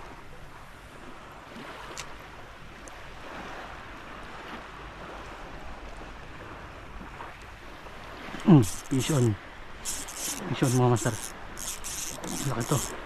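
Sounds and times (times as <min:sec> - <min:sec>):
small waves lapping: 0:00.0 - 0:13.0
wind: 0:00.0 - 0:13.0.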